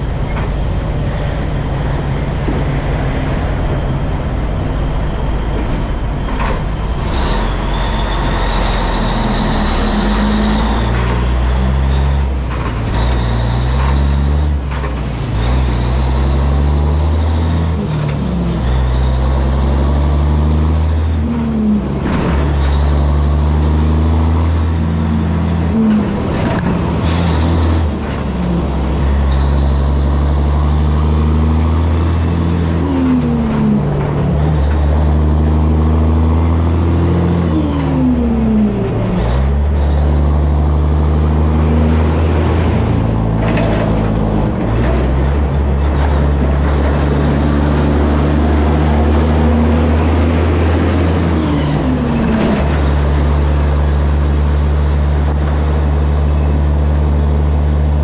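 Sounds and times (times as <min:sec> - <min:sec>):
diesel truck engine shifting gears: 0:00.0 - 0:58.0.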